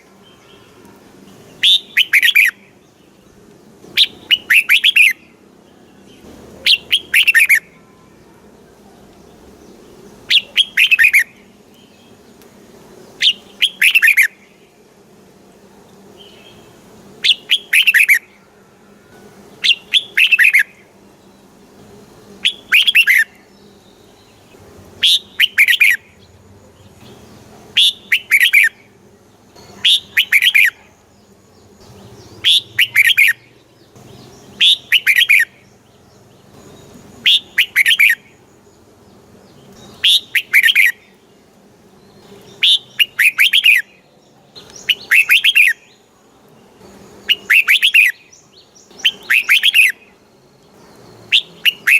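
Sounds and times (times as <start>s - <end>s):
bird singing short song: 0.0s - 3.4s, 4.0s - 8.1s, 9.2s - 12.2s, 13.2s - 14.7s, 16.2s - 18.4s, 19.6s - 21.5s, 22.4s - 41.4s, 42.0s - 51.9s.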